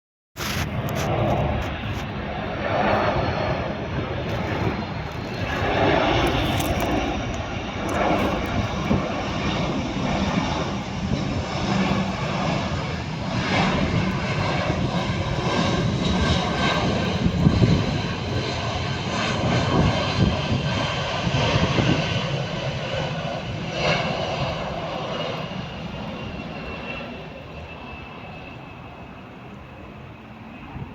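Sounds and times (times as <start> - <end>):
aircraft engines roaring overhead: 0.4 - 30.9.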